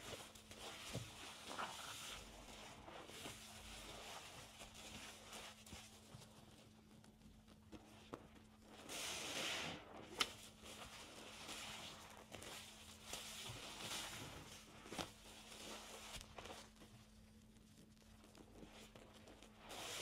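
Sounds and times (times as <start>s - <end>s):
wet sponge squelching: 0.0s - 6.4s, 7.8s - 16.8s, 18.4s - 20.0s.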